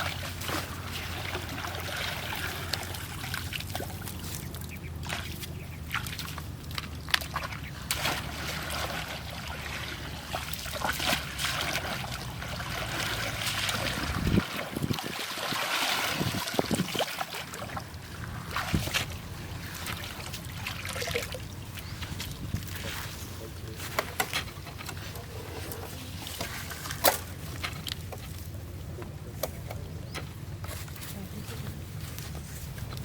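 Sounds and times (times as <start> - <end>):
water sloshing and splashing: 0.0 - 28.6
low steady hum: 0.0 - 33.0.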